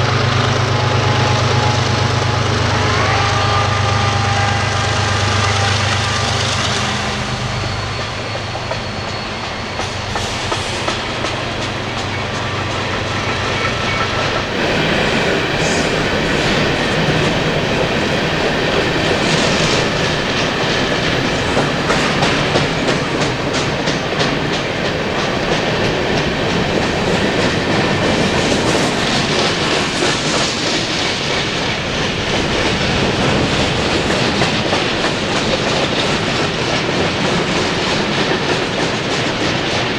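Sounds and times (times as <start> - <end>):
diesel locomotive hum: 0.0 - 39.9
train wheels clattering on rails: 4.9 - 39.9.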